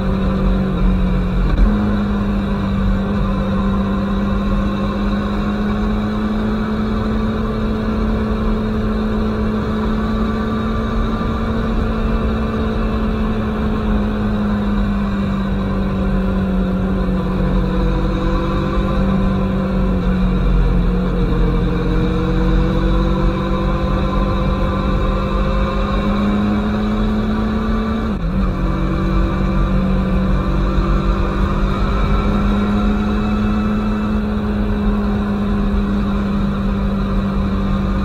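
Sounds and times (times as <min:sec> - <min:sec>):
motorcycle engine cruising: 0:00.0 - 0:38.0
wind and road noise: 0:00.0 - 0:38.0.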